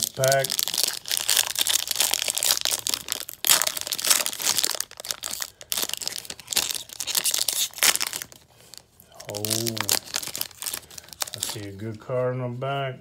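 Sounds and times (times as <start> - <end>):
foil wrapper crinkling and tearing: 0.0 - 11.8.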